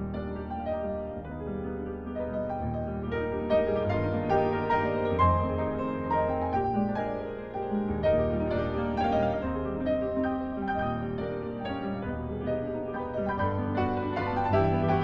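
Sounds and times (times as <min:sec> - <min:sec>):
classical piano playing: 0:00.0 - 0:15.0.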